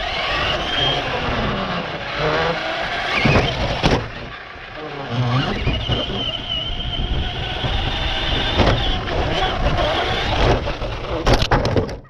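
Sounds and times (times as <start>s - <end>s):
toy car motor whining: 0.0s - 11.5s
wheels rumbling on ground: 0.0s - 12.0s.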